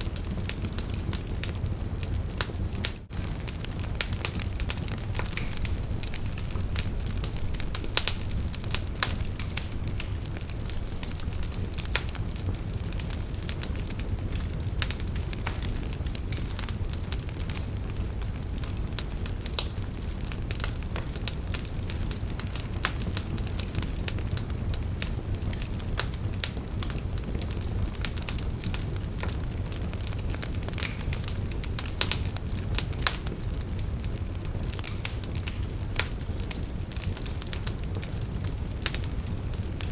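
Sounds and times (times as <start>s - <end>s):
bonfire crackling and rumbling: 0.0s - 39.9s.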